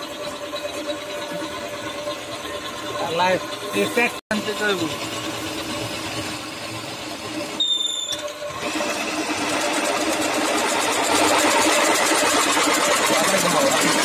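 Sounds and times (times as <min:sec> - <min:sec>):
drill press boring through metal: 0:00.0 - 0:14.0.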